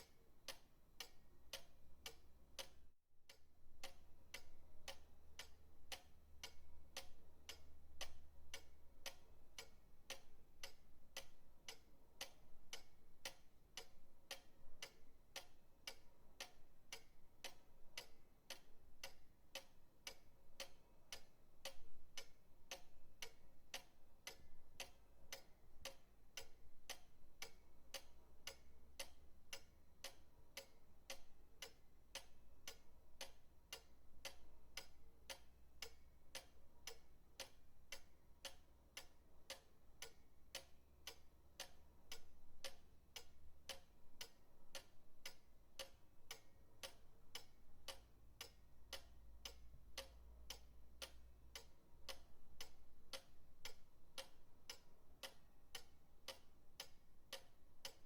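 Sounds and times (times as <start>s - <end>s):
pendulum clock ticking: 0.0s - 58.0s.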